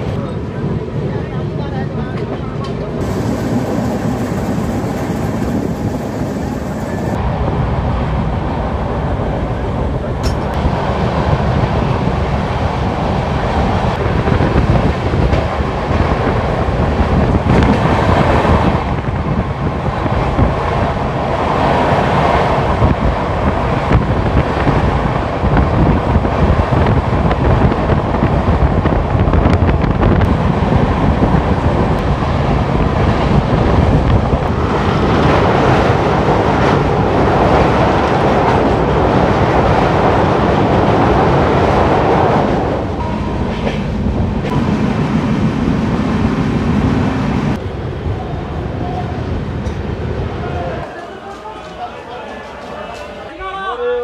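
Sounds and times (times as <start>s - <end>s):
wind on microphone: 0.0s - 50.9s
train wheel and rail noise: 0.0s - 54.0s.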